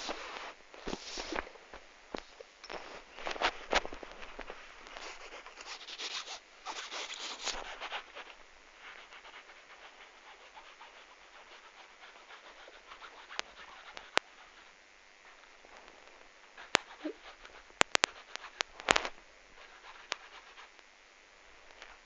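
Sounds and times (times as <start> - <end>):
rustling and scratching: 0.0 - 20.8, 21.6 - 22.0
faint crackling: 0.0 - 22.0.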